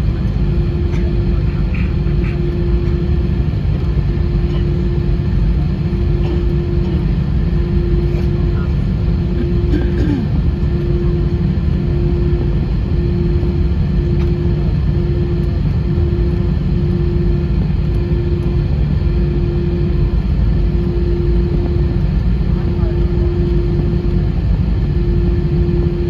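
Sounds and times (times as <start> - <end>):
aircraft cabin rumble: 0.0 - 26.0
steady hum: 0.0 - 26.0.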